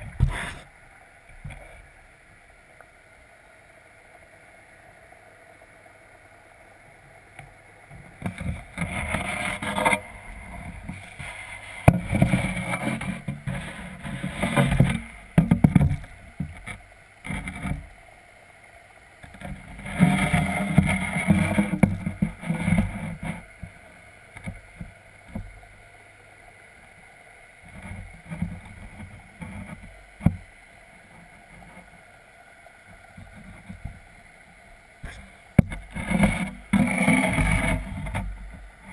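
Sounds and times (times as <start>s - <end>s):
low steady hum: 0.0s - 38.9s
muffled underwater water movement: 0.0s - 38.9s.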